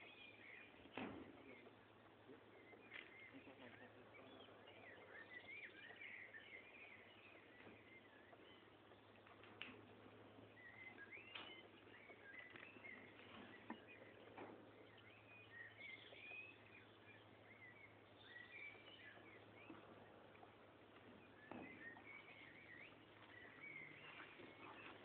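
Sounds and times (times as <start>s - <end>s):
faint birds chirping: 0.0s - 25.0s.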